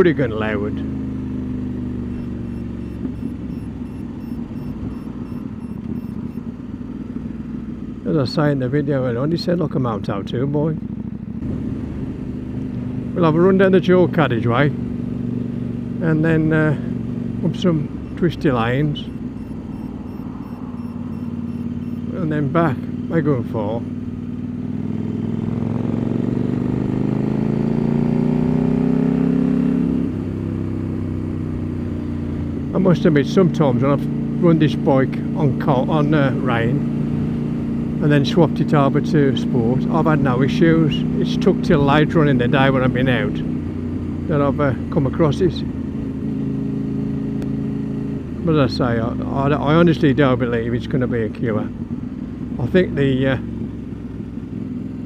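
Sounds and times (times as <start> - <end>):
loud motorcycle engine running: 0.0 - 55.0.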